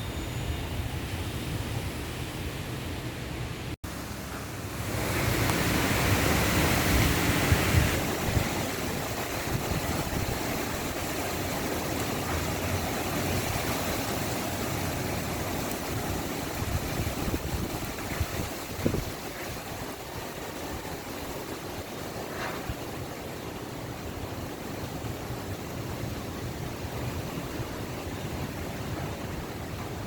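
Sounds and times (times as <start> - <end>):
strong wind: 0.0 - 30.0
heavy rain: 3.8 - 30.0.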